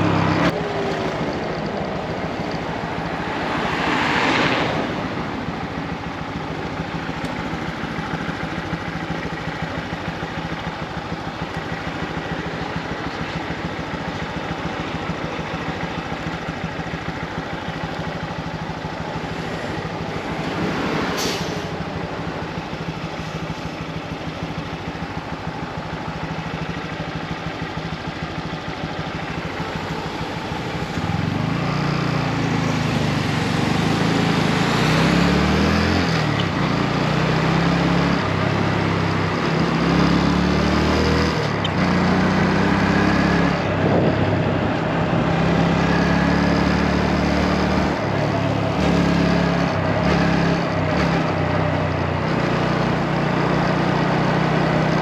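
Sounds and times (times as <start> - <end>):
motorcycle engine running: 0.0 - 4.0, 4.8 - 21.0, 21.7 - 55.0.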